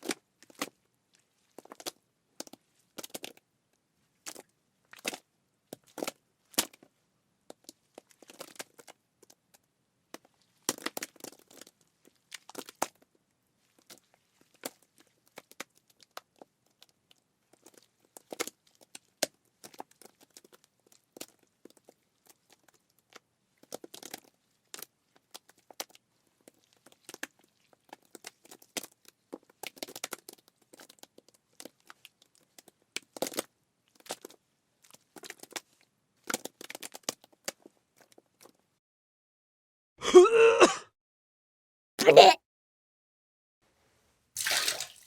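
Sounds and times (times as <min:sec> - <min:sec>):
crackling and crinkling: 0:00.0 - 0:03.4, 0:04.0 - 0:06.9, 0:07.5 - 0:38.6.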